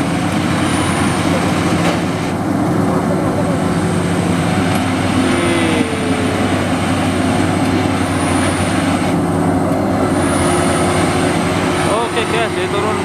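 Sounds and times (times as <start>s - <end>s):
combine harvester engine running: 0.0s - 13.0s.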